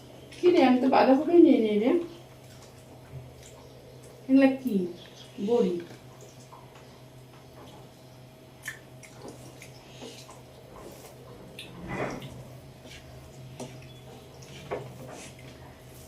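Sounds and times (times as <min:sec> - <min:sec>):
steady low hum: 0:00.0 - 0:16.0
wet chewing and mixing noises: 0:01.7 - 0:16.0.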